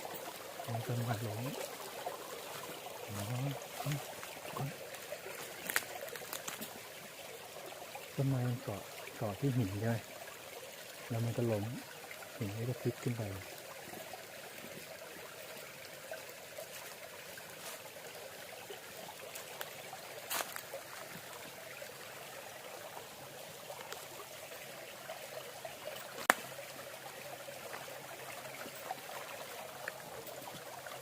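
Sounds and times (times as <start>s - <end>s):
stream trickling over rock: 0.0s - 31.0s.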